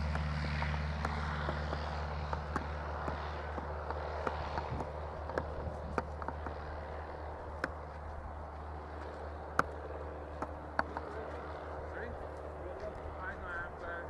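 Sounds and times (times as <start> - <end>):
light aircraft engine droning: 0.0 - 14.0.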